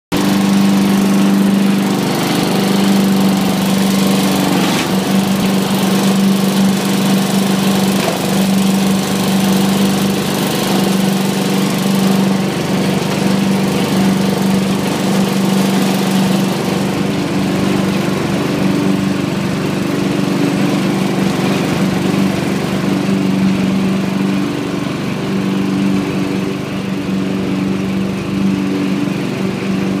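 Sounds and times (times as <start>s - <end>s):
lawn mower engine running: 0.1s - 30.0s.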